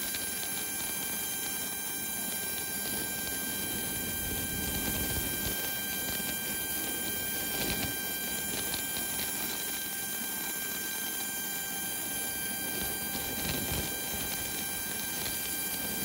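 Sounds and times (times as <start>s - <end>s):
turbine whine: 0.0s - 16.0s.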